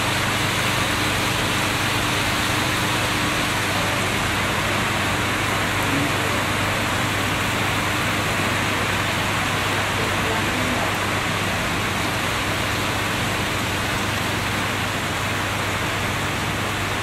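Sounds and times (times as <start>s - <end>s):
heavy rain on road and roof: 0.0s - 17.0s.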